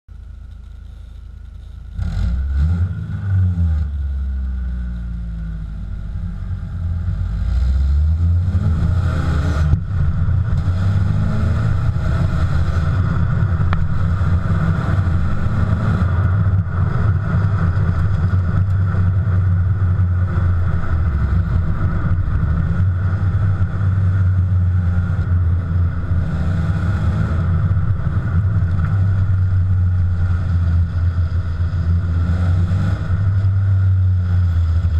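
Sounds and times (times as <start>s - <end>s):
car exhaust revving: 0.2s - 34.9s.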